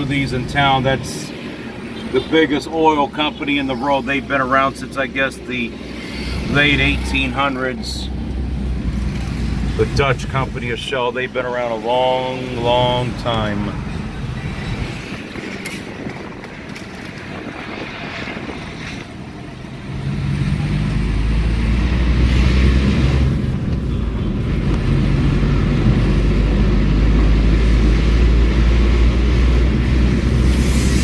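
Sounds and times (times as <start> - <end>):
car engine: 0.0 - 31.0
road noise: 0.0 - 31.0.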